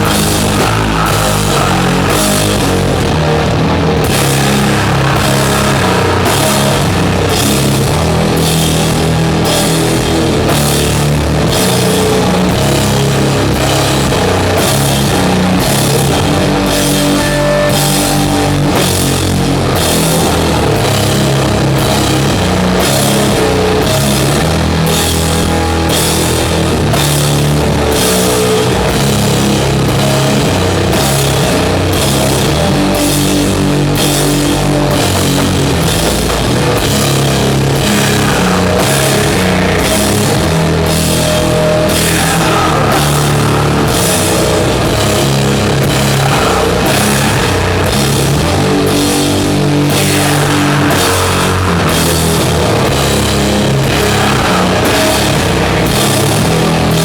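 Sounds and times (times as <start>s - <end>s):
heavy distorted guitars and bass: 0.0s - 57.0s
slow drums: 0.0s - 57.0s.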